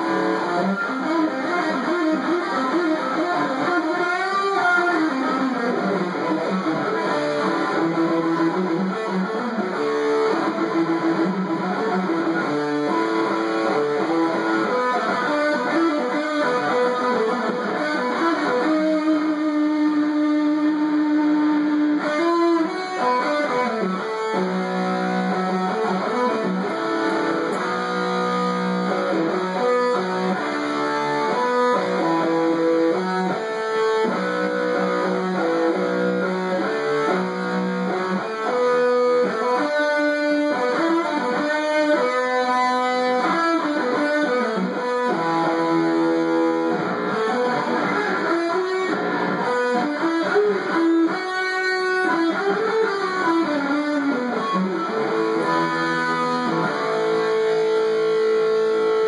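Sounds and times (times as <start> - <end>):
electric guitar lead line: 0.0 - 59.0.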